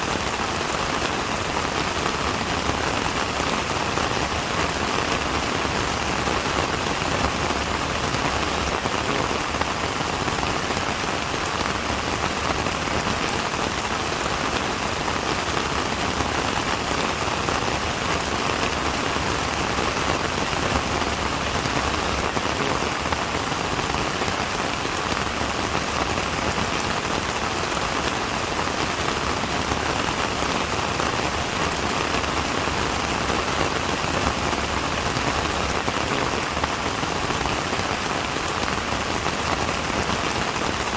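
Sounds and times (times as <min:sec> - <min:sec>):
rain pattering on a surface: 0:00.0 - 0:40.9.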